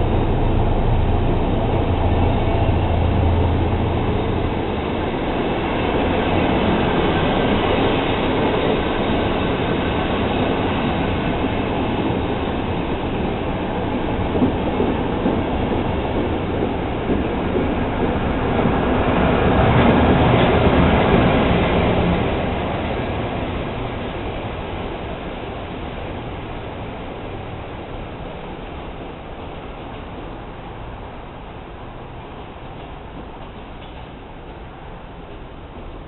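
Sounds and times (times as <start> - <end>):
train coaches rolling on rails: 0.0 - 36.0.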